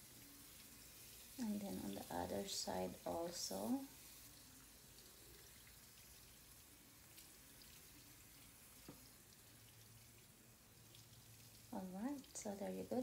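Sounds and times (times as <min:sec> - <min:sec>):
tap water running into a sink: 0:00.0 - 0:13.0.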